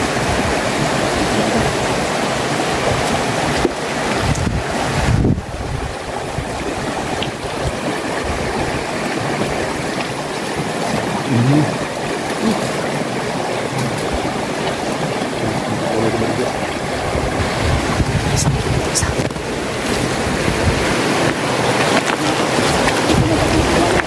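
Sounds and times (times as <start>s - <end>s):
river running over rocks: 0.0s - 24.0s.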